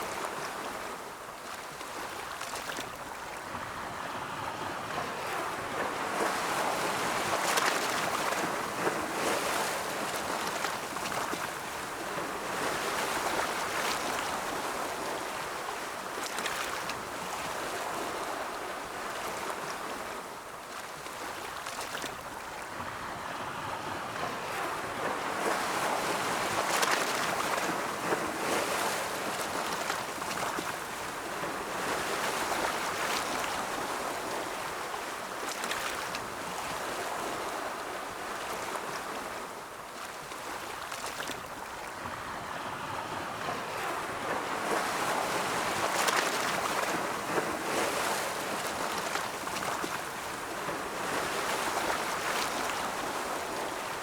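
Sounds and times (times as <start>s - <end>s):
ocean surf waves breaking: 0.0s - 54.0s.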